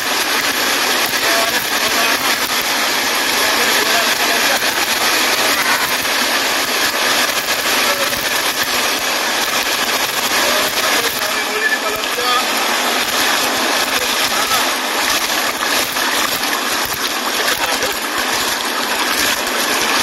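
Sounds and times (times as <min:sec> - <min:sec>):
fish splashing in a net: 0:00.0 - 0:20.0
river flowing over rocks: 0:00.0 - 0:20.0.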